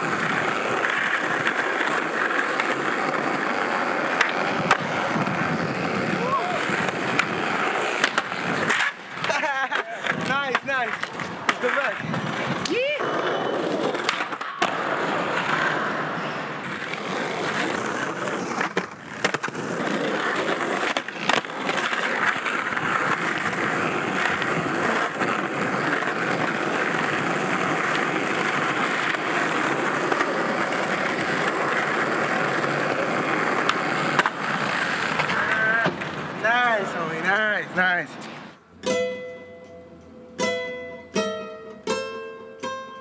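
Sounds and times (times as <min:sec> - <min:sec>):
skateboard clacking: 0:00.0 - 0:37.4
skateboard wheels rolling on asphalt: 0:00.0 - 0:38.8.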